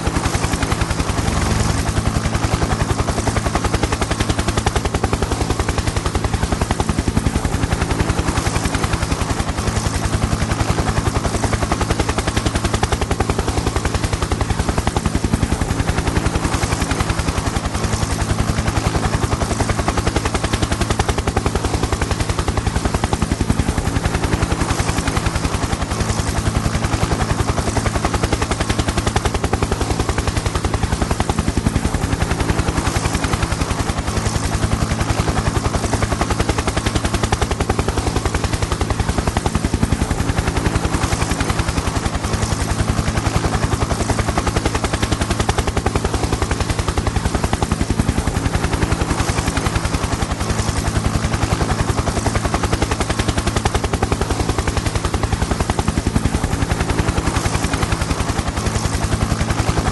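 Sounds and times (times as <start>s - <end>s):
helicopter rotor chopping: 0.0s - 59.9s.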